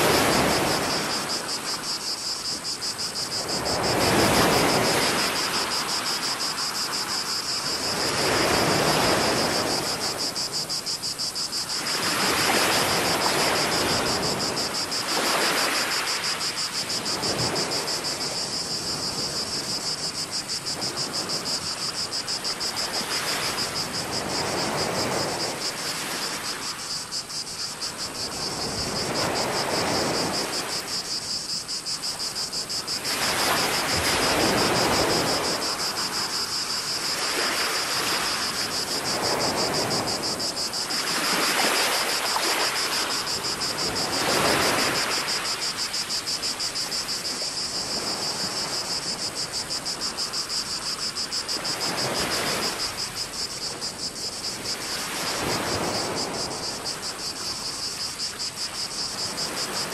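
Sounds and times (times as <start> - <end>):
cicadas chorus: 0.0 - 59.9.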